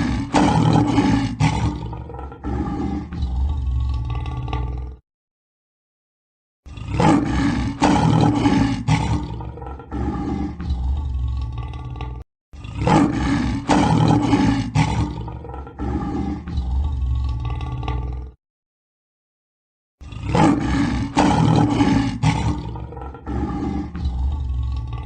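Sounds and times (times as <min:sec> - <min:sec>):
large carnivore roaring: 0:00.0 - 0:05.0, 0:06.7 - 0:18.4, 0:20.0 - 0:25.0.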